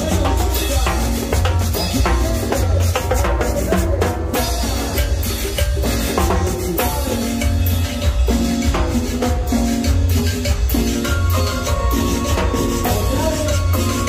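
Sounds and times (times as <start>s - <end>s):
live band playing: 0.0s - 14.0s
shaken percussion: 0.0s - 14.0s.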